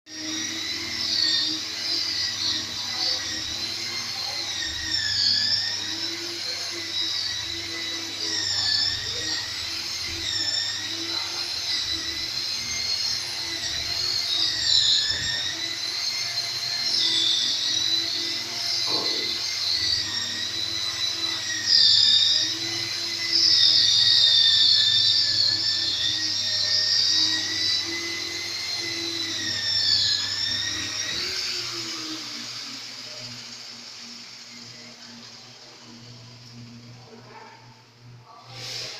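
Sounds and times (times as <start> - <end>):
electric polisher whining: 0.1 - 38.9.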